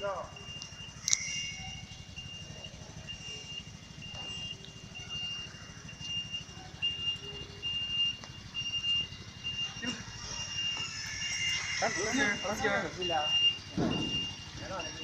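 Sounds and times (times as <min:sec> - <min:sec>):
engine running: 0:00.0 - 0:15.0
turn-signal buzzer beeping: 0:00.0 - 0:15.0.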